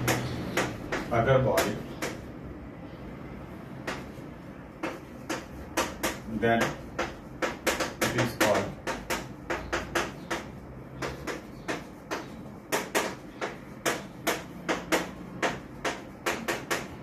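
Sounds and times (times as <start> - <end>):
chalk writing on chalkboard: 0.0 - 2.6, 3.4 - 17.0.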